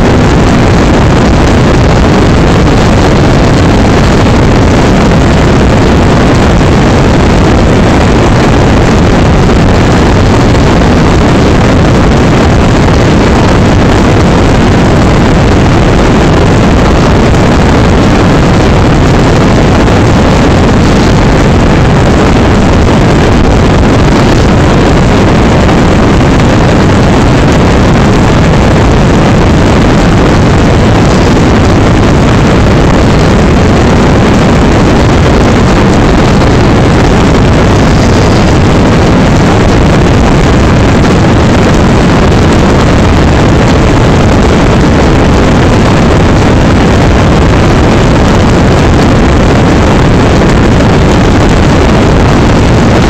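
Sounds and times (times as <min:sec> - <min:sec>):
heavy rain on vehicle: 0:00.0 - 0:45.2
vehicle engine noise: 0:00.0 - 0:53.0.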